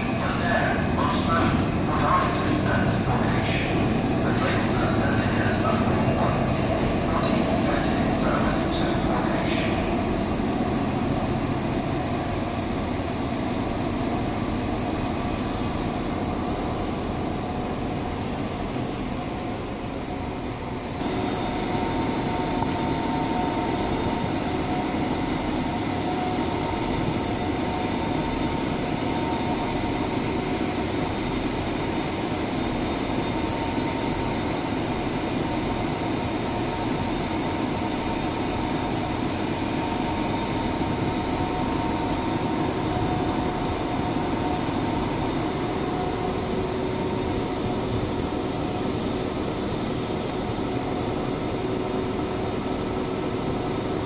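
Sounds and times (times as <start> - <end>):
diesel trains idling: 0.0 - 54.0.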